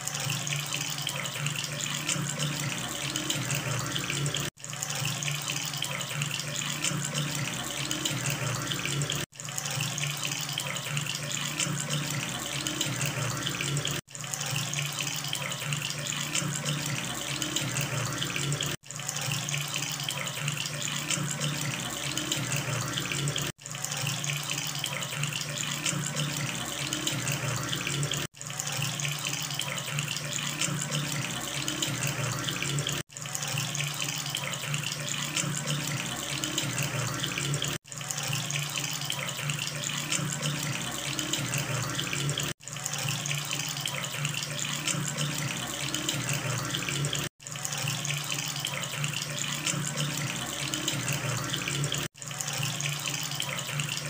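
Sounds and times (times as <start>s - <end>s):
faucet water running into basin: 0.0s - 54.0s.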